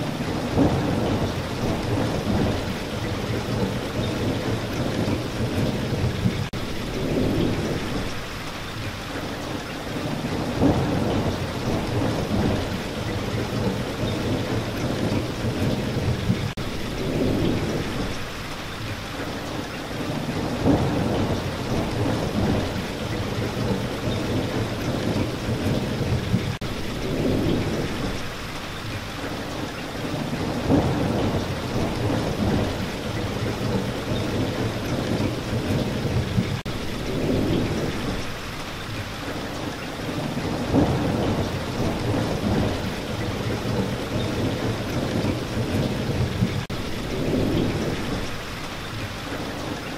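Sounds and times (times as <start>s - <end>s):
heavy rain falling: 0.0s - 49.9s
rolls of thunder: 0.2s - 8.2s, 10.2s - 18.2s, 20.3s - 28.2s, 30.1s - 38.3s, 40.1s - 48.4s.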